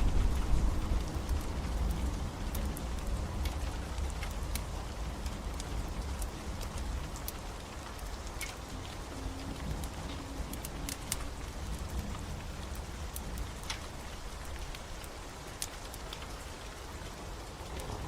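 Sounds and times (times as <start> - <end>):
rain falling: 0.0 - 18.0
wood fire crackling: 0.0 - 18.0.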